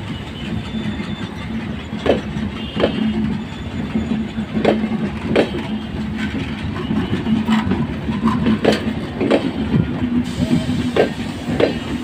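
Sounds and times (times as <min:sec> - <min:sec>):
train rumble and hum: 0:00.0 - 0:12.0
wheels clacking over rail joints: 0:00.0 - 0:12.0.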